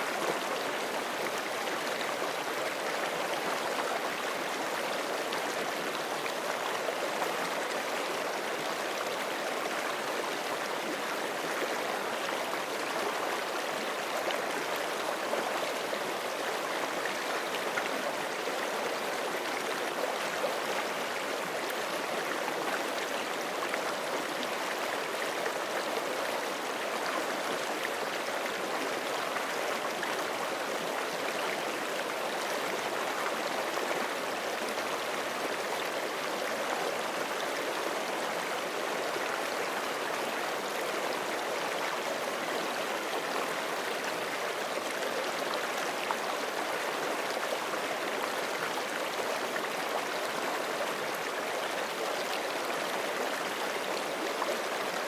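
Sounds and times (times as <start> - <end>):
creek flowing over rocks: 0.0 - 55.0.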